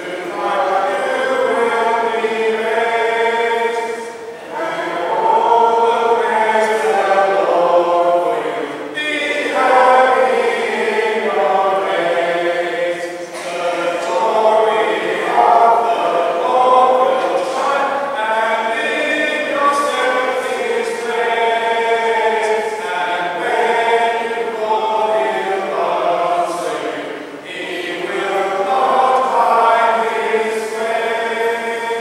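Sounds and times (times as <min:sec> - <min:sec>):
congregation singing: 0:00.0 - 0:32.0.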